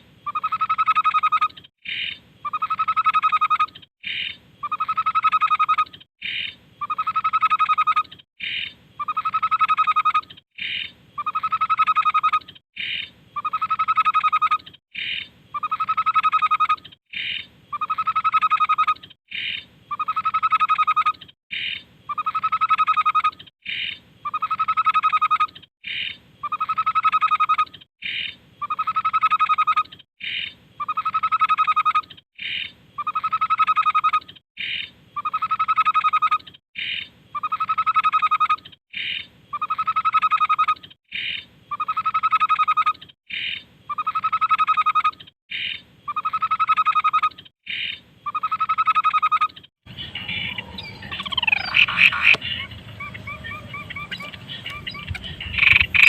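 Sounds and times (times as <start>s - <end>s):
babbler bird song: 0.2s - 56.0s.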